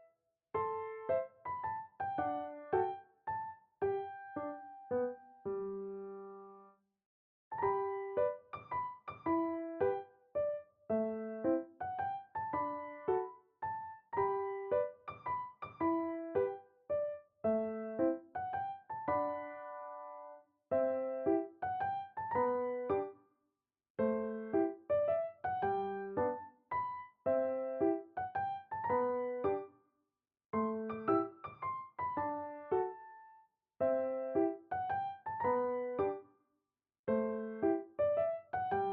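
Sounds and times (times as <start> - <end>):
light piano melody: 0.0 - 6.7, 7.6 - 23.2, 24.0 - 29.8, 30.6 - 36.3, 37.1 - 38.9.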